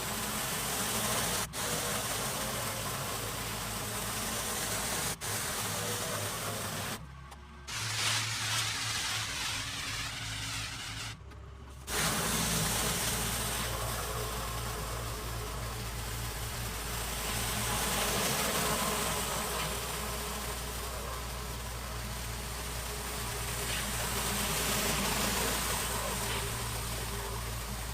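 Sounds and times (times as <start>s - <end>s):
pressure washer engine running: 0.0s - 7.0s, 7.7s - 11.1s, 11.9s - 27.9s
water spraying hiss: 0.0s - 7.0s, 7.7s - 11.2s, 11.9s - 27.9s.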